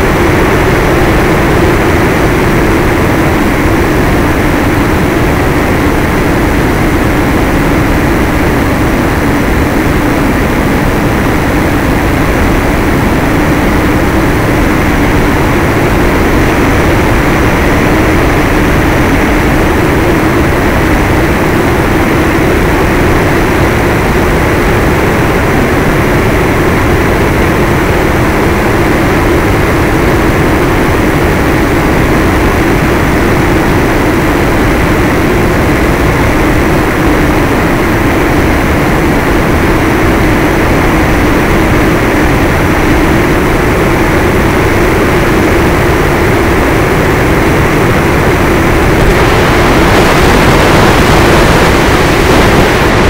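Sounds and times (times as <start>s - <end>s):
wind rush: 0.0s - 53.0s.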